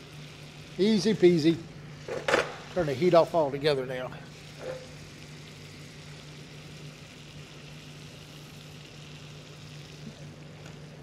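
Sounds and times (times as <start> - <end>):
butter sizzling in pan: 0.0 - 3.3, 4.3 - 11.0.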